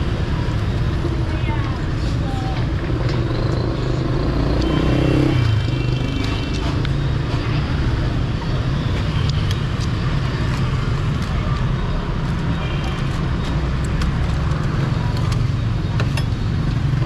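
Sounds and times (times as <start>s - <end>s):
motorbike engines passing: 0.0s - 17.0s.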